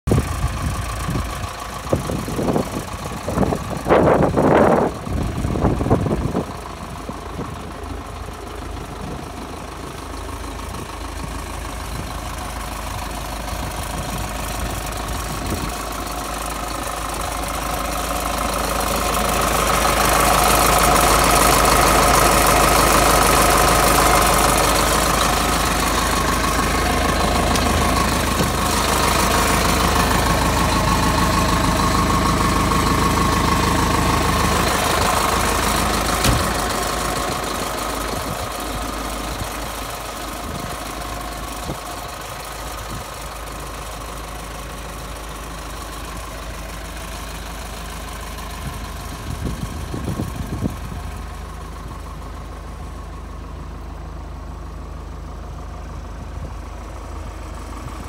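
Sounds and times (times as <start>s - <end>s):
diesel engine idling: 0.1s - 58.0s.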